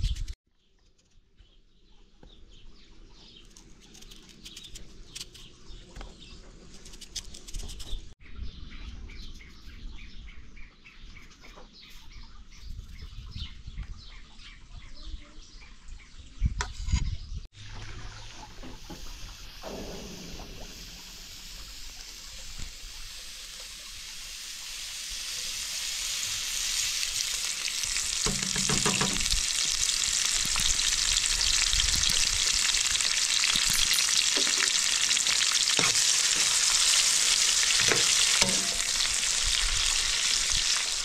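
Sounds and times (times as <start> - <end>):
small birds chirping: 0.0 - 17.5, 22.0 - 41.0.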